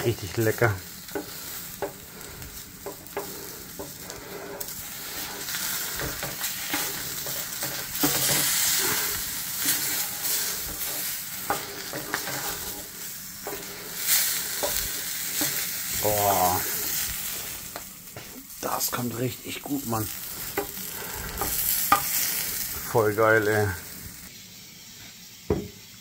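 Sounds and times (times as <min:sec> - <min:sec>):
sausages sizzling in a frying pan: 0:00.0 - 0:26.0.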